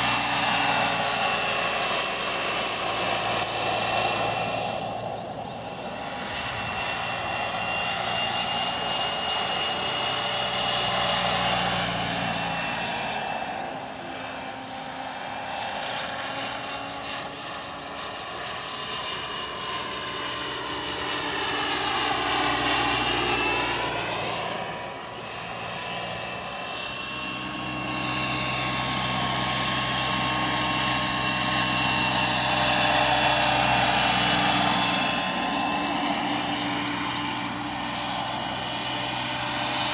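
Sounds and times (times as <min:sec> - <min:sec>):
high turbine whine: 0:00.0 - 0:39.9.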